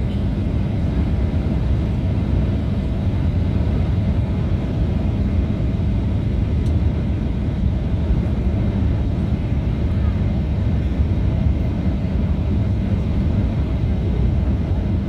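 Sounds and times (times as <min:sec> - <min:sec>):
jet airliner cabin rumble: 0:00.0 - 0:15.0.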